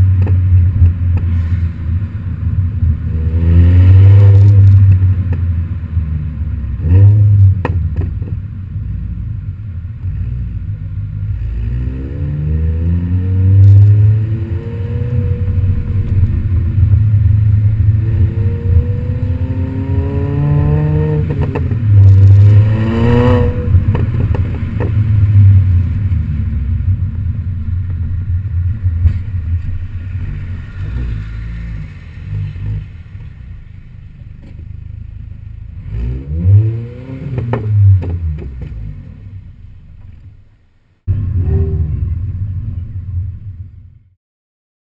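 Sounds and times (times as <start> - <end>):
car engine revving: 0.0 - 40.2, 41.1 - 43.8.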